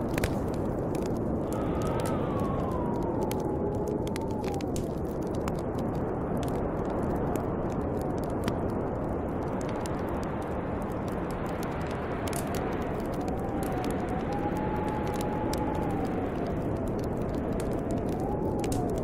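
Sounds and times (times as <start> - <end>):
howling wind whistle: 0.0 - 19.0
wind blowing: 0.0 - 19.0
wood fire crackling: 0.0 - 19.0.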